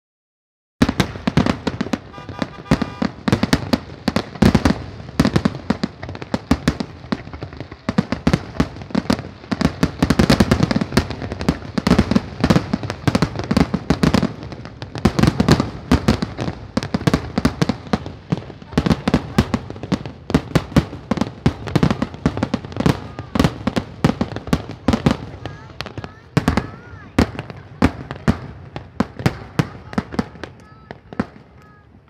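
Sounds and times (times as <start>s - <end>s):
fireworks bangs and crackling: 0.8s - 32.0s.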